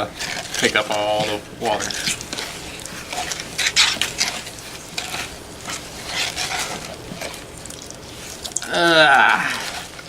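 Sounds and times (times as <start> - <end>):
slime squishing in a bowl: 0.0 - 10.0.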